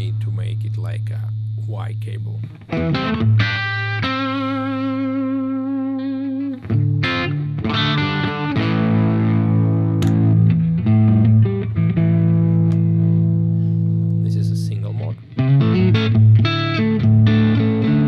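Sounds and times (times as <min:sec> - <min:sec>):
overdriven electric guitar chords: 0:00.0 - 0:18.0.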